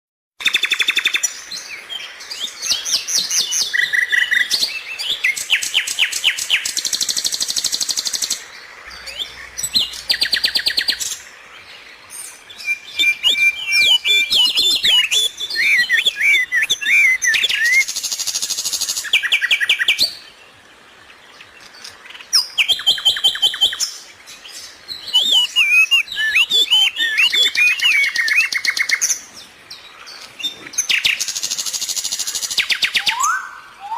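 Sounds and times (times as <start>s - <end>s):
birds chirping and trilling: 0.4s - 33.9s.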